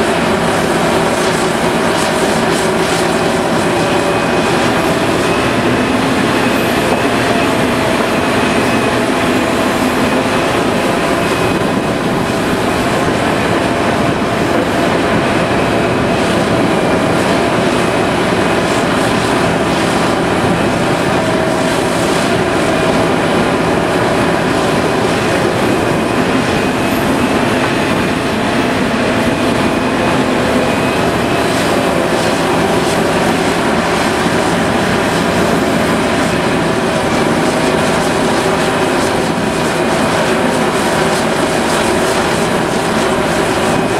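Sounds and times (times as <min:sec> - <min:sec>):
hydraulic whine: 0:00.0 - 0:43.9.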